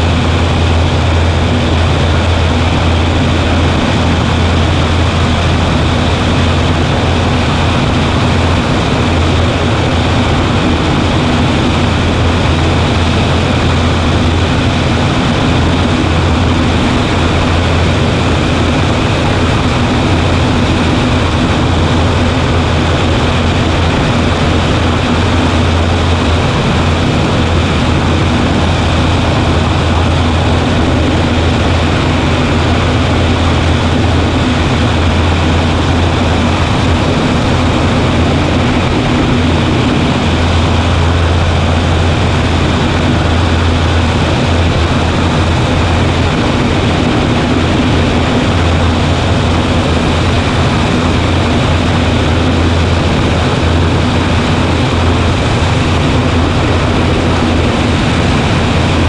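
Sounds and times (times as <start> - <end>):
light airplane engine drone: 0.0 - 59.0.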